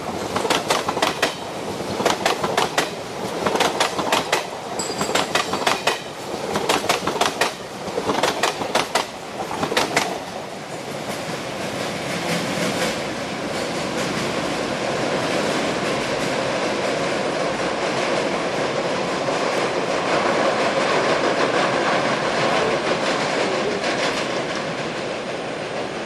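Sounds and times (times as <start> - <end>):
train rolling rumble: 0.0 - 26.0
train wheels clacking over rail joints: 0.0 - 26.0.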